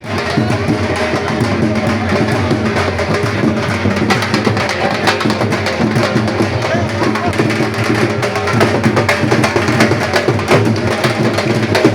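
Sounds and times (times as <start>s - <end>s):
music with fast drumming: 0.0s - 11.9s.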